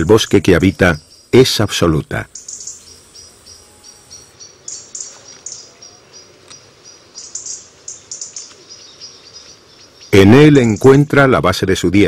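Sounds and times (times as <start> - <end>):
faint outdoor background: 0.0 - 12.0
small birds chirping: 0.0 - 12.0.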